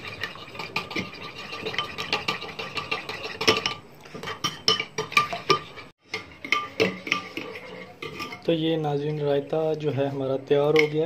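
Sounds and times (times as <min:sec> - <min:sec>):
metal spoon stirring yogurt in bowl: 0:00.0 - 0:11.0.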